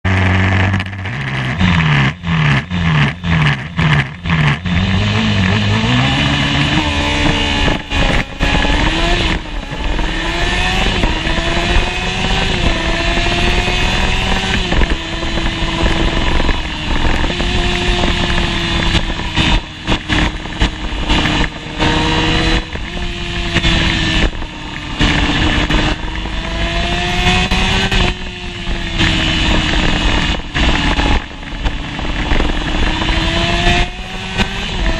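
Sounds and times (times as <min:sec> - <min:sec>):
motorcycle engine accelerating: 0:00.0 - 0:34.9
wind noise: 0:00.1 - 0:34.9.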